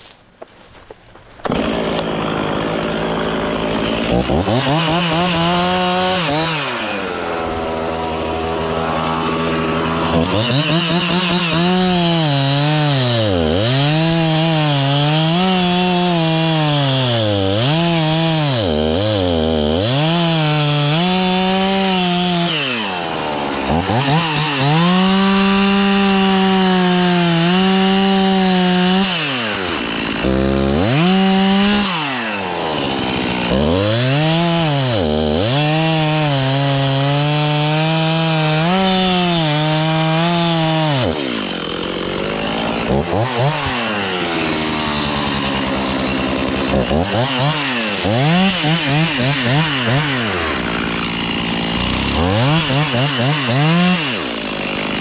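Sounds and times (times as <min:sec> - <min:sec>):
chainsaw revving: 0:01.4 - 0:55.0.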